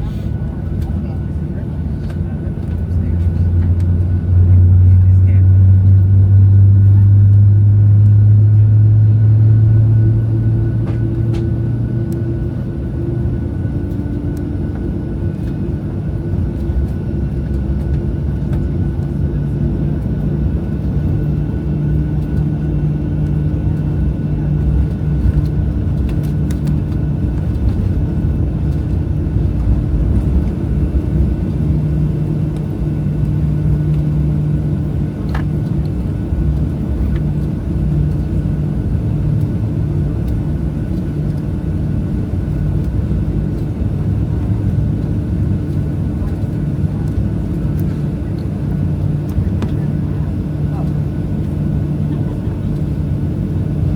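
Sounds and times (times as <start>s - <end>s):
jet engines rumbling in cabin: 0.0s - 53.9s
deep hum: 2.5s - 47.6s.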